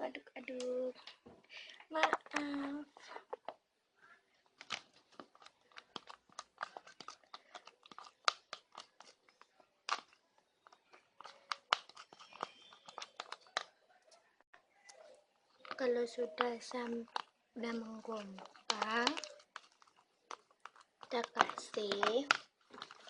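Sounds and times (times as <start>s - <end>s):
slime squelching while stirred: 1.6s - 23.0s.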